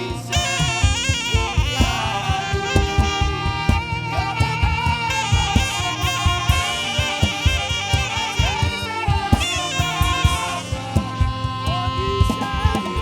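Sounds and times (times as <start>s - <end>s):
band playing: 0.0s - 13.0s
drums beating: 0.0s - 13.0s
saxophone melody: 0.0s - 13.0s.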